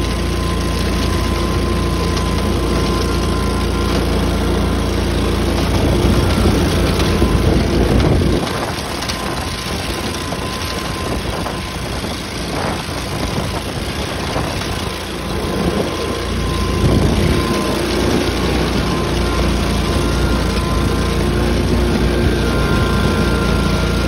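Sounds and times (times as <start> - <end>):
tractor engine rumbling: 0.0 - 24.0.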